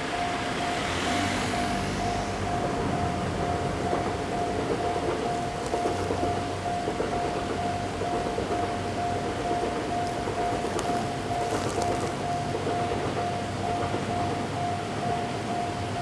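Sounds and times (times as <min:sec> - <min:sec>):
level-crossing warning bell: 0:00.0 - 0:16.0.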